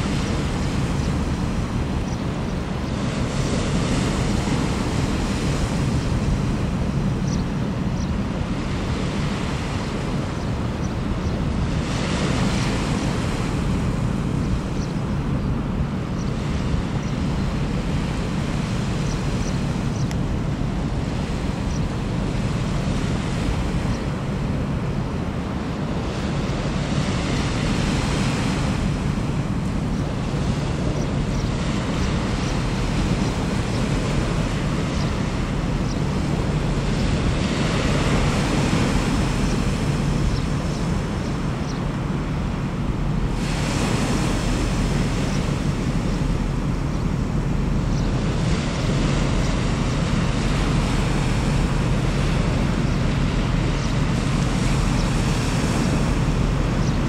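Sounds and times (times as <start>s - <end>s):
low ship engine drone: 0.0s - 57.0s
small waves on stony beach: 0.0s - 57.0s
wind on microphone: 0.0s - 57.0s.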